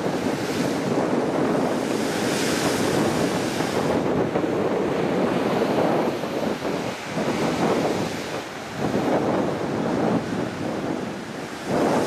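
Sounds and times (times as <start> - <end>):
ocean surf washing over rock: 0.0 - 12.0.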